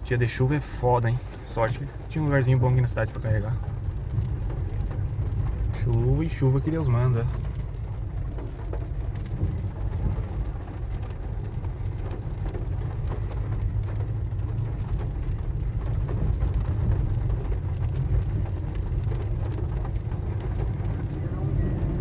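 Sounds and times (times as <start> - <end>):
rain falling on vehicle: 0.0 - 22.0
truck engine and road rumble: 0.0 - 22.0.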